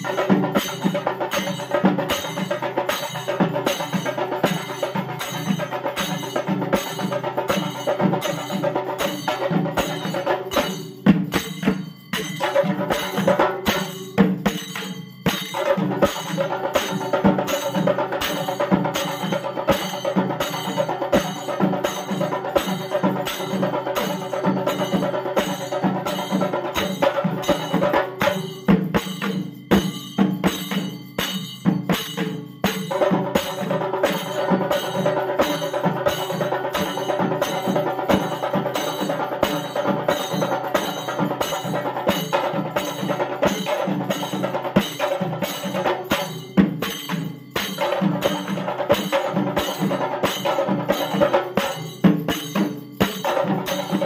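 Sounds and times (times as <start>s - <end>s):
double-headed drum beating: 0.0s - 54.0s
ringing metallic tone: 0.0s - 54.0s.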